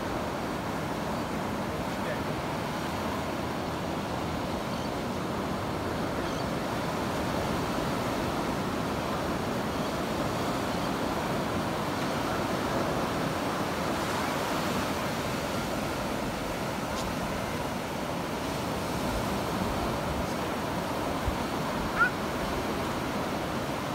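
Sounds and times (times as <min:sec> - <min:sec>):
ocean surf breaking: 0:00.0 - 0:23.9
wind: 0:00.0 - 0:23.9.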